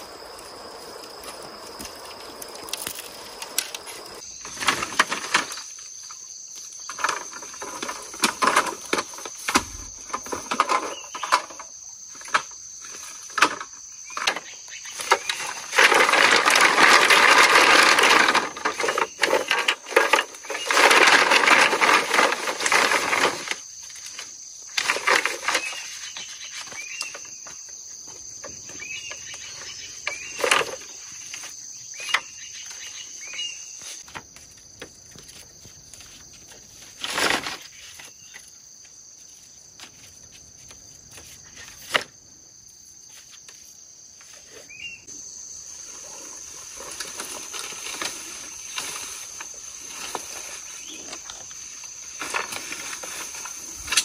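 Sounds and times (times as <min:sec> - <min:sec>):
insects buzzing: 0:00.0 - 0:54.0
bamboo poles clattering together: 0:01.2 - 0:38.6, 0:39.7 - 0:42.2, 0:46.1 - 0:54.0.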